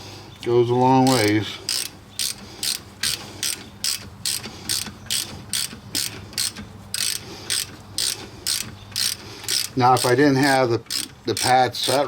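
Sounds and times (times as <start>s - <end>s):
ratchet wrench clicking: 1.0s - 12.0s.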